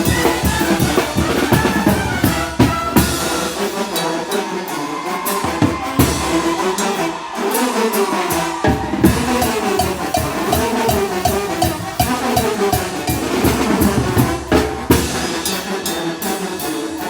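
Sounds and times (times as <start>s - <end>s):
brass playing tune: 0.0s - 17.0s
snare drum: 0.0s - 17.0s.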